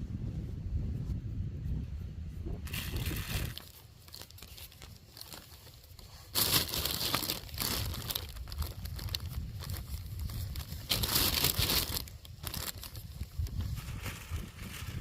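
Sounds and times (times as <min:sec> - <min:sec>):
crinkling rustling handling noise: 0:02.7 - 0:15.0.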